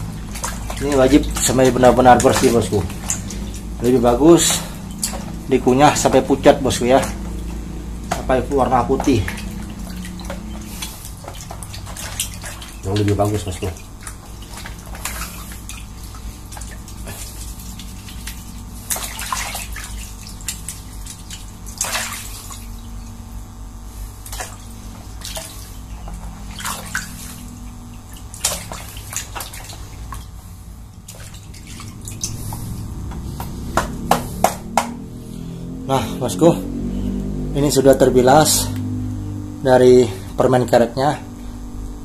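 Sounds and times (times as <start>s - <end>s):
steady low hum: 0.0s - 42.0s
water splashing and sloshing: 0.0s - 42.0s.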